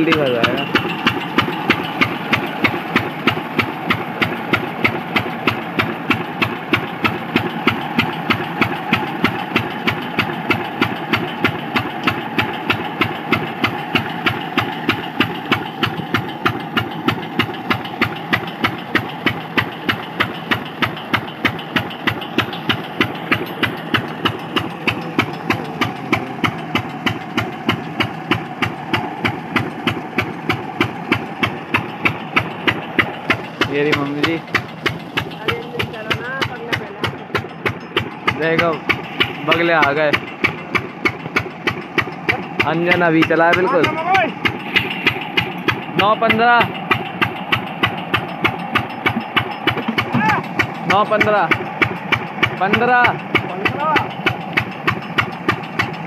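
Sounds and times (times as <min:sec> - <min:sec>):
diesel engine chugging: 0:00.0 - 0:56.0.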